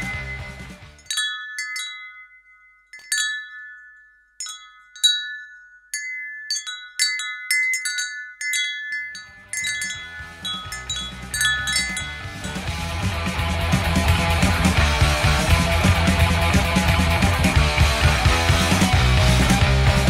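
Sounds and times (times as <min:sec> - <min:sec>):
wind chimes ringing: 0:00.0 - 0:17.6.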